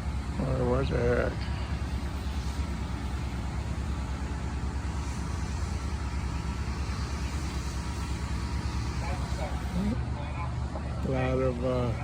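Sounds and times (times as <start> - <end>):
engines idling: 0.0 - 12.0.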